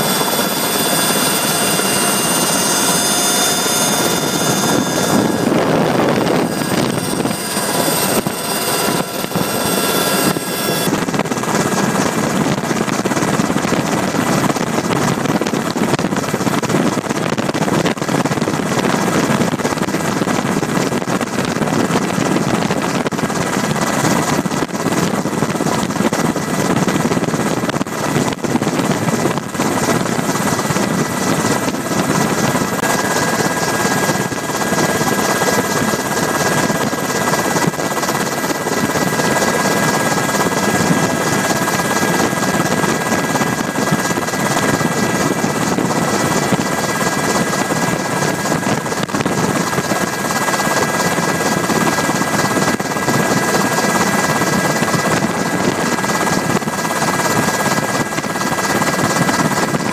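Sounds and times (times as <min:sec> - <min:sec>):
helicopter rotor and engine: 0:00.0 - 0:59.9
high steady whine: 0:00.0 - 0:59.9.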